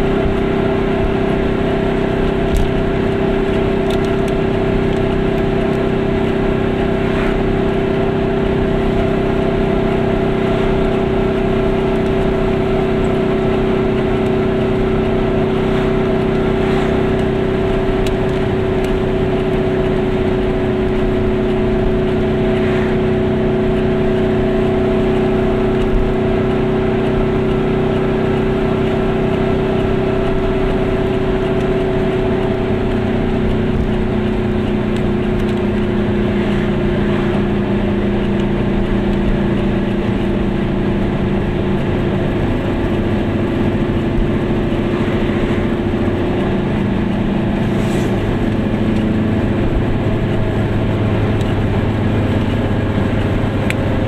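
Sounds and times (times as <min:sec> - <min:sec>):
road noise: 0:00.0 - 0:54.0
two-stroke engine running: 0:00.0 - 0:54.0.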